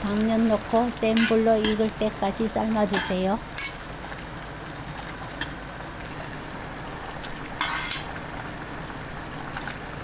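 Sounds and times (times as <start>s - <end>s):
water boiling and bubbling: 0.0s - 10.0s.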